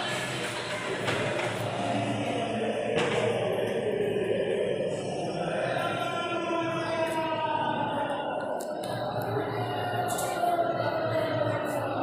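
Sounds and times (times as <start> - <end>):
devotional chanting with music: 0.0 - 12.0.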